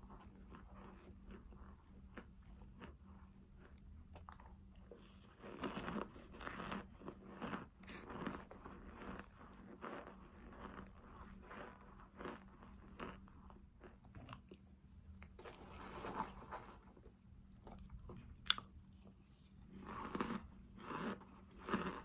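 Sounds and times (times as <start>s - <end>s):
chewing and crunching: 0.0s - 22.0s.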